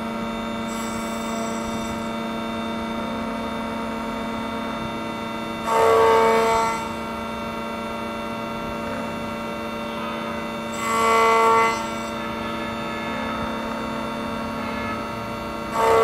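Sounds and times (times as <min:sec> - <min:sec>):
key cutting machine whine: 0:00.0 - 0:16.0.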